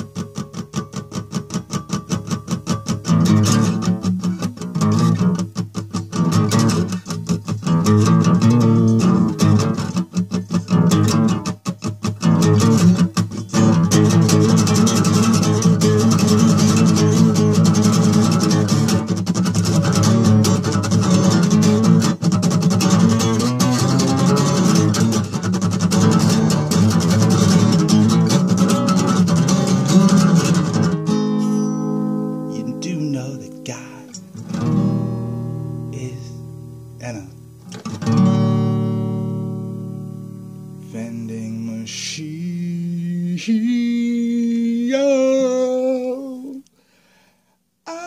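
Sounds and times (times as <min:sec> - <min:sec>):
guitar strumming chords: 0:00.0 - 0:47.2.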